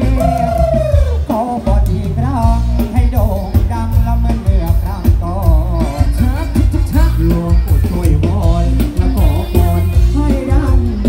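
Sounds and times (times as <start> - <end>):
band music over loudspeakers: 0.0 - 11.0.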